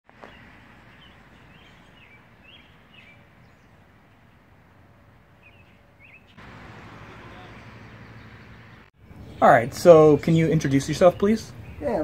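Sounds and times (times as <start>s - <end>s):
bird chirping: 0.1s - 4.6s, 5.3s - 12.0s.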